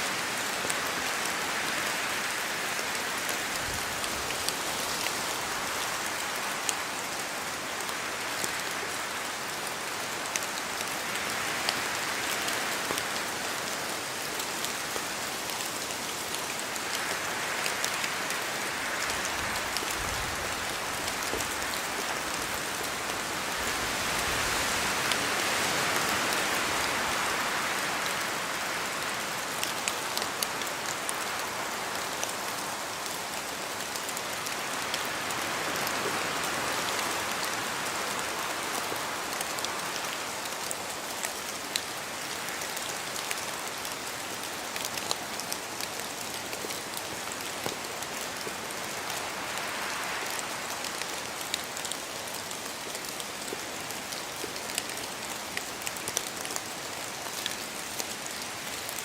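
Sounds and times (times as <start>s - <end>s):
rain dripping through trees: 0.0s - 59.0s.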